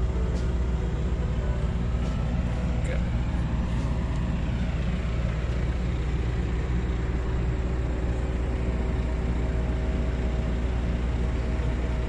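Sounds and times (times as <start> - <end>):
large diesel engine idling: 0.0 - 12.0.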